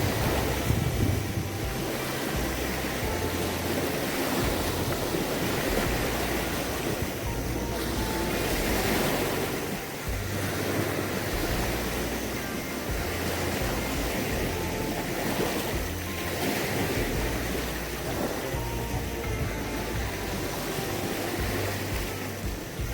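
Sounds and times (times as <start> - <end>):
sea surf on shore: 0.0 - 22.9
wind buffeting microphone: 0.0 - 22.9.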